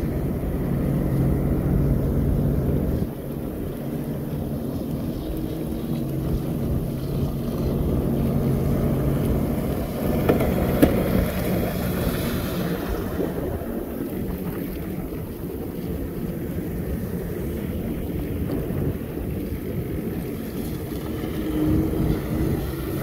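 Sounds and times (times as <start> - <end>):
water rushing past hull: 0.0 - 23.0
watercraft engine running: 0.0 - 23.0
wind buffeting microphone: 0.0 - 23.0.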